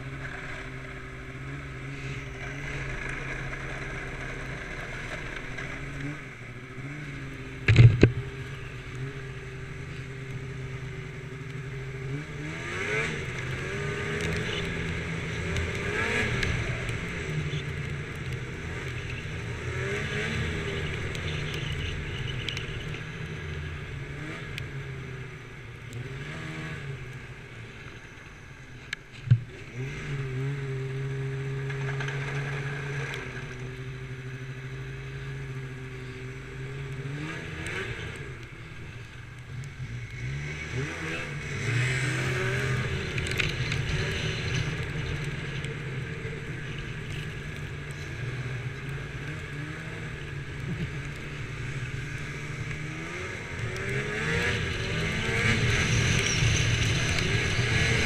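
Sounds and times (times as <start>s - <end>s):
snowmobile engine revving: 0.0s - 27.5s, 29.6s - 58.0s.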